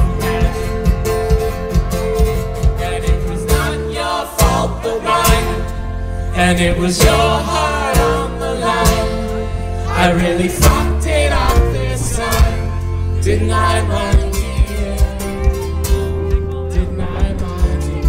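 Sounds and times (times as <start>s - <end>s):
person singing lead vocal: 0.0s - 1.2s, 2.6s - 18.0s
bass line: 0.0s - 18.0s
electric and acoustic guitars: 0.0s - 18.0s.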